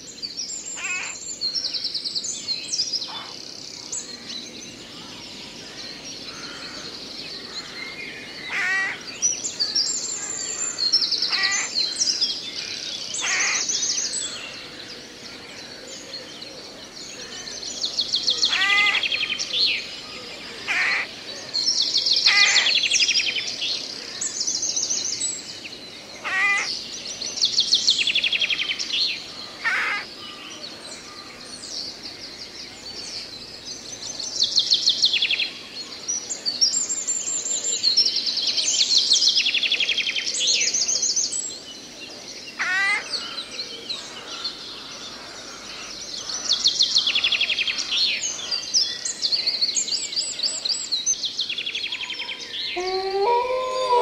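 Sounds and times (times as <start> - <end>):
forest ambience hiss: 0.0 - 52.7
songbirds trilling: 0.0 - 54.0.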